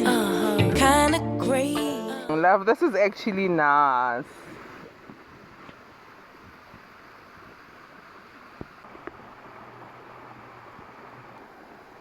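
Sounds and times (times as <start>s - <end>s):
faint outdoor background noise: 2.3s - 12.0s.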